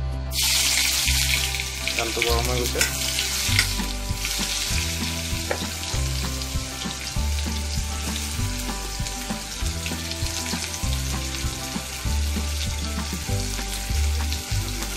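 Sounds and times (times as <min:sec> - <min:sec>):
onions sizzling in hot oil: 0:00.3 - 0:14.9.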